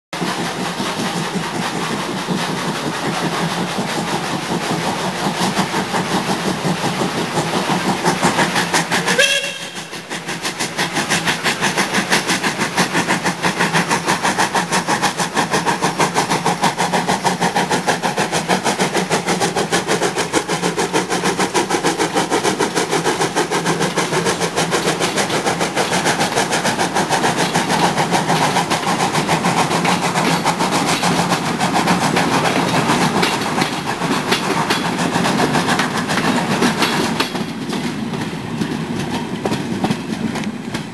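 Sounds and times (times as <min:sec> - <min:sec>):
steam locomotive exhaust beat: 0:00.1 - 0:40.9
rolling stock: 0:00.2 - 0:40.9.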